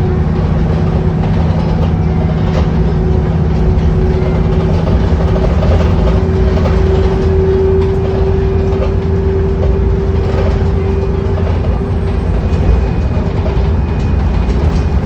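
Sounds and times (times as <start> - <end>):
bus engine and road rumble: 0.0 - 15.0
high steady whine: 0.0 - 15.0.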